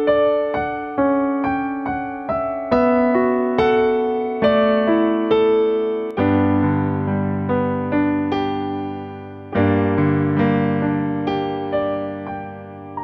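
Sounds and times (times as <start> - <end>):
deep piano bass notes: 0.0 - 13.0
solo piano broken chords: 0.0 - 13.0.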